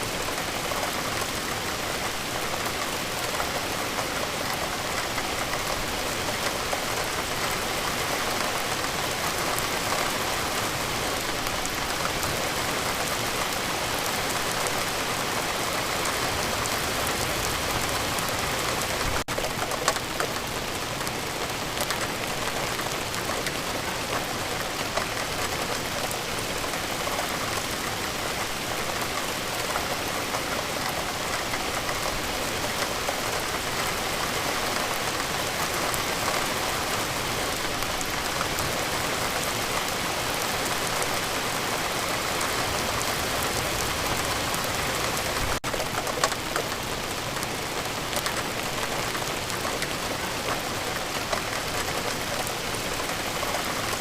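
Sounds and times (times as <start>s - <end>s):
raindrops ticking on a surface: 0.1s - 54.0s.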